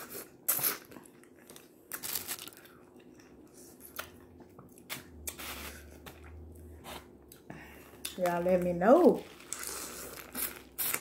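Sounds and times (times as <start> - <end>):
sucking and chewing: 0.0 - 8.6, 9.2 - 11.0.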